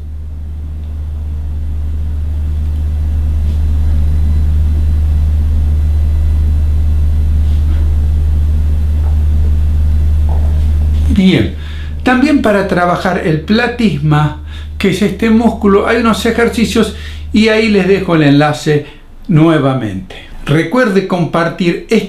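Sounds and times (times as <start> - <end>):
loud low hum: 0.0 - 22.0.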